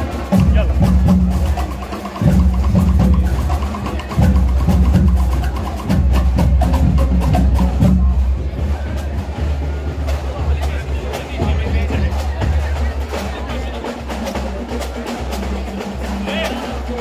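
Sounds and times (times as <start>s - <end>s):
bass drum beating: 0.0s - 17.0s.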